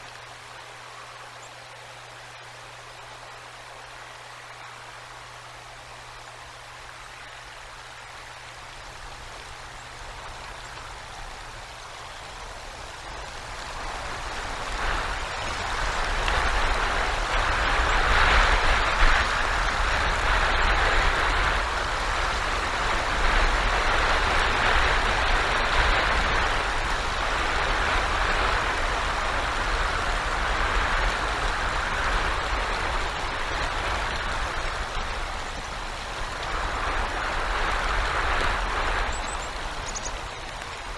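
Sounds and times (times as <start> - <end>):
icy rain: 0.0 - 40.9
microphone hiss: 0.0 - 40.9
wind: 0.0 - 40.9.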